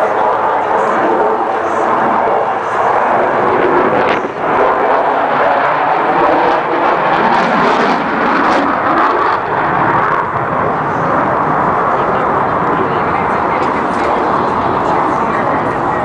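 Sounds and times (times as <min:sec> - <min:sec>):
fighter jet flying overhead: 0:00.0 - 0:16.0.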